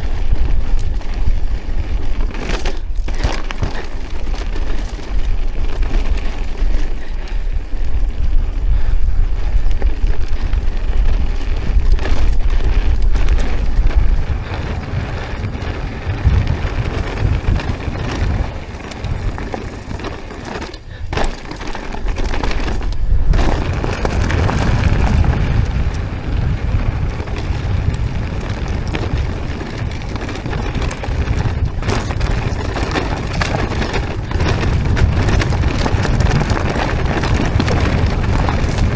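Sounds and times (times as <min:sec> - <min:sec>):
bike rattling: 0:00.0 - 0:38.9
bike tyres rolling over stones: 0:00.0 - 0:38.9
wind rumble on microphone: 0:00.0 - 0:38.9.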